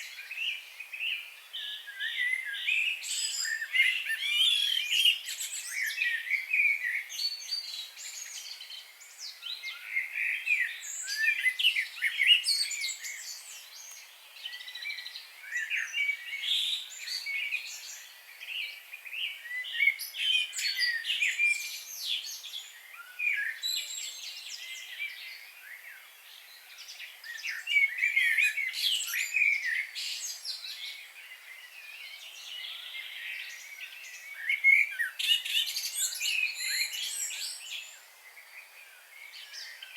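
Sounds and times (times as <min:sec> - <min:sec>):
wild birds chirping and singing: 0:00.0 - 0:39.9.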